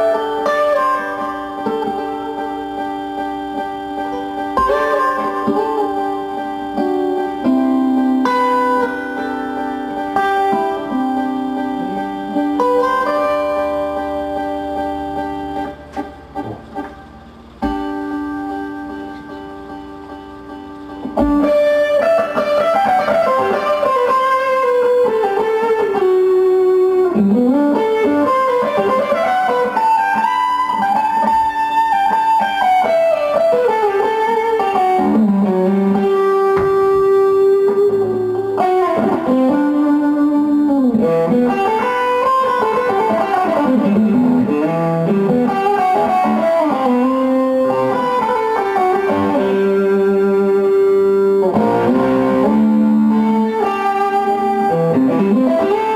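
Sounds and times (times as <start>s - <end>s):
gliding guitar melody: 0.0s - 55.9s.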